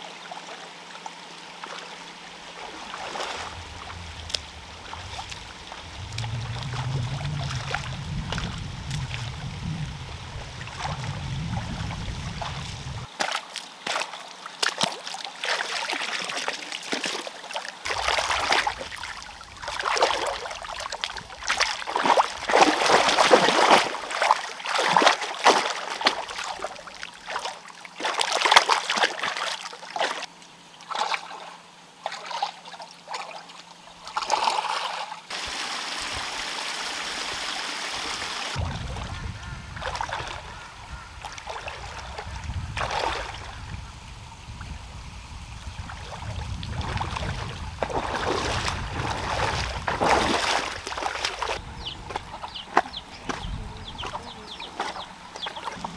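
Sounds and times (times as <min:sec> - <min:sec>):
water splashing around wading legs: 0:01.6 - 0:36.0, 0:38.3 - 0:40.5, 0:41.2 - 0:43.6, 0:45.8 - 0:55.9.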